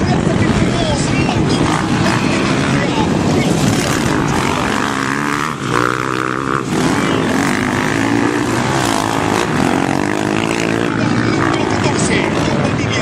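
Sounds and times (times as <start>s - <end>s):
motorbike engines revving: 0.0s - 13.0s.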